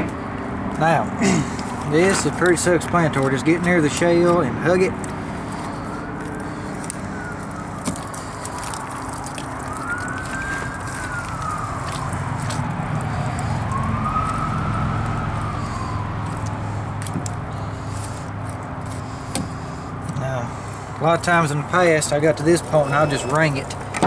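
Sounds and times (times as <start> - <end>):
siren wailing up and down: 4.0 - 18.4, 19.0 - 24.0.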